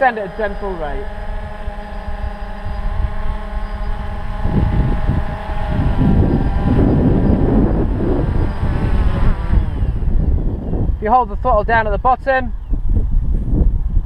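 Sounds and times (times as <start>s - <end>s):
drone motors humming: 0.0s - 14.0s
wind noise on microphone: 0.0s - 14.0s.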